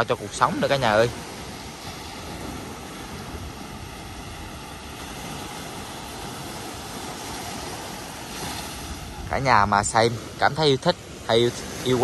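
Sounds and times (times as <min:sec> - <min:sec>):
gentle surf: 0:00.0 - 0:12.0
wind on microphone: 0:00.0 - 0:12.0.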